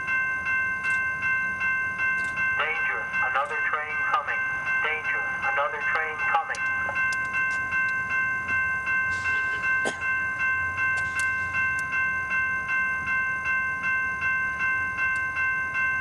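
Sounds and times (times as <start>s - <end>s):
railroad warning bell ringing: 0.0s - 16.0s.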